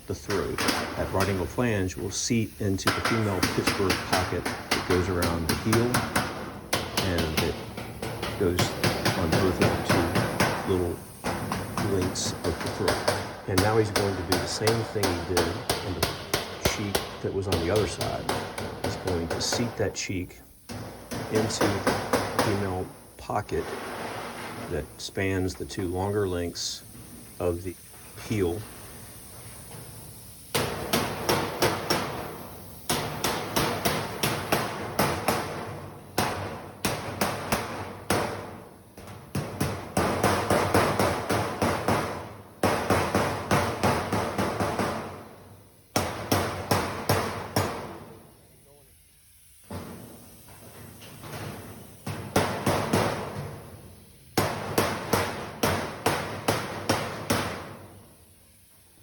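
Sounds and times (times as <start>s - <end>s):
hammer on sheet metal: 0.2s - 48.4s, 49.6s - 58.1s.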